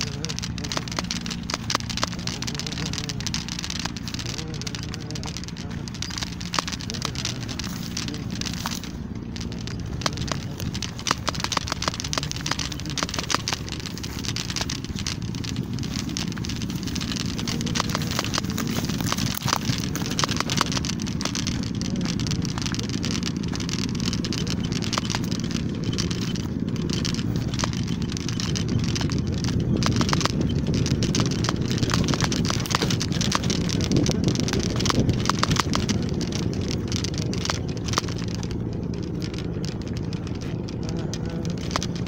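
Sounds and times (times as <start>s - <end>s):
crackling of straw and twigs: 0.0s - 42.0s
low rumble of movement: 0.0s - 42.0s.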